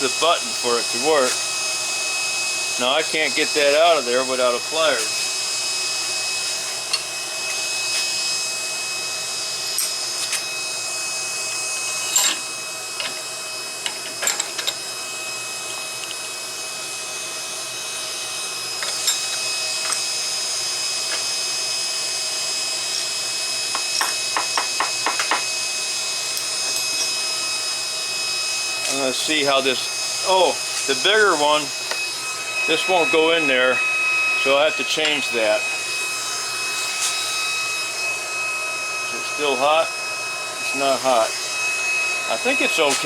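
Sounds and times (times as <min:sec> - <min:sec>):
cooling fan rush with whine: 0:00.0 - 0:43.0.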